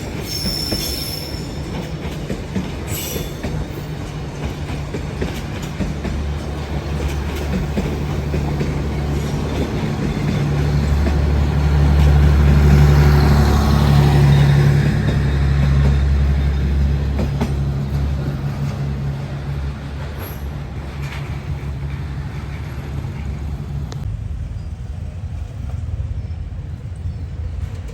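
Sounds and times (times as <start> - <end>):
diesel locomotive engine drone: 0.0 - 27.9.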